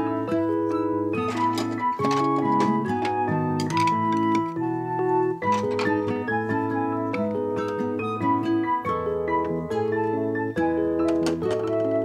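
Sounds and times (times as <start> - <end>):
keyboard melody over chords: 0.0 - 12.0.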